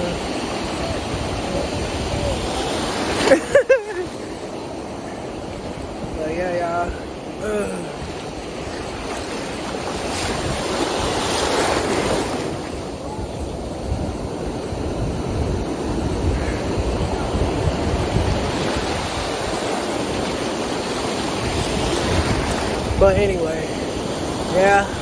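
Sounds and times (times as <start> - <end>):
ocean surf washing onto beach: 0.0 - 25.0
wind buffeting microphone: 0.0 - 25.0.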